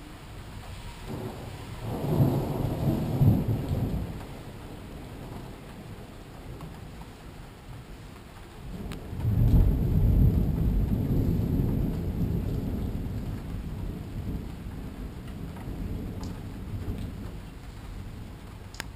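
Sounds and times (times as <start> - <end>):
thunder rumbling: 0.0 - 8.0, 8.6 - 18.7
steady rain: 0.0 - 18.9.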